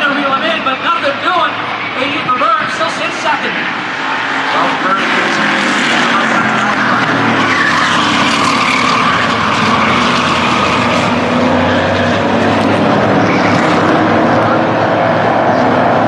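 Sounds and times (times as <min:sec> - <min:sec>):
race truck engines passing: 0:00.0 - 0:16.0.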